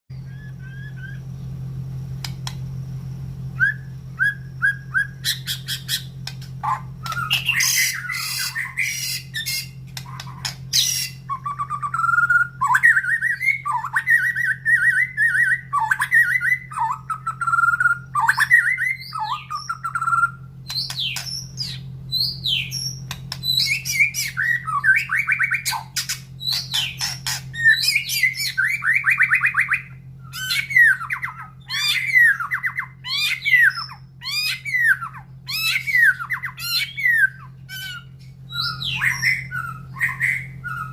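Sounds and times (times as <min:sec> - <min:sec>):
bird singing whistled phrases: 0:00.1 - 0:01.3, 0:03.6 - 0:40.9.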